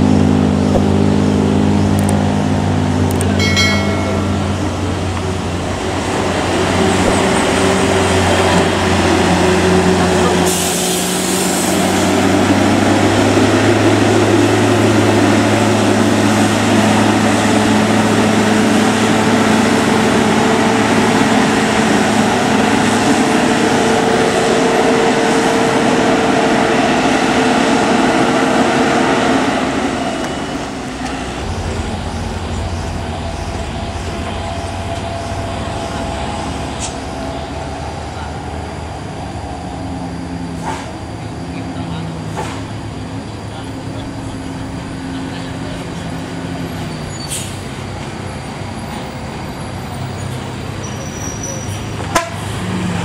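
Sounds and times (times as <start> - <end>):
bus diesel engine droning: 0.0 - 53.0
low bus engine rumble: 0.0 - 53.0.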